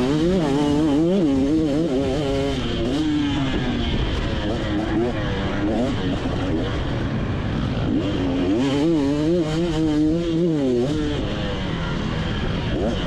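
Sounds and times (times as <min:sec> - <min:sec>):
two-stroke motorbike engine revving: 0:00.0 - 0:13.0.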